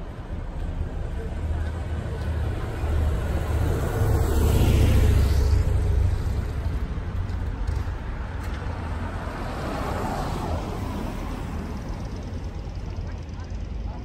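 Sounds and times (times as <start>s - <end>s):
motor vehicle engine rumble: 0.0s - 14.0s
street traffic rumble: 0.0s - 14.0s.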